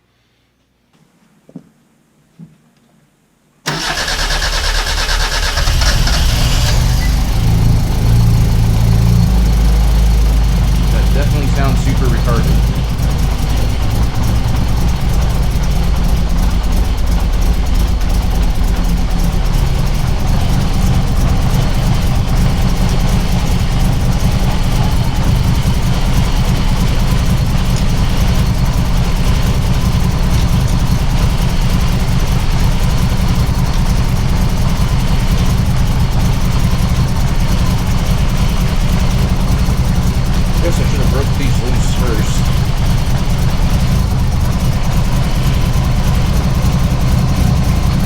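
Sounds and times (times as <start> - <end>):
car engine idling: 3.7 - 48.0.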